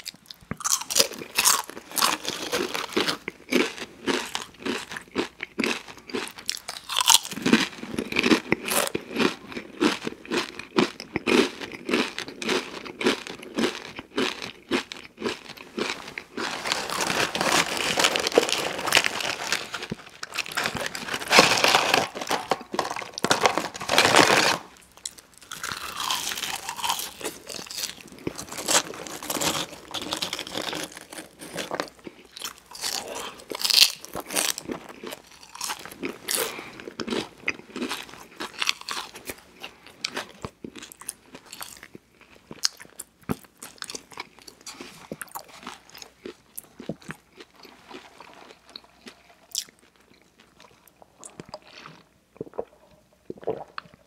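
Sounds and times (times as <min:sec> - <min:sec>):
chewing and crunching fries: 0:00.0 - 0:54.0.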